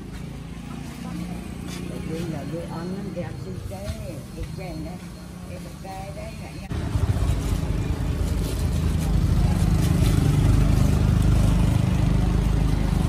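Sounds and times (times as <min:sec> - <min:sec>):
motorbike engine rumbling: 0:00.0 - 0:13.0.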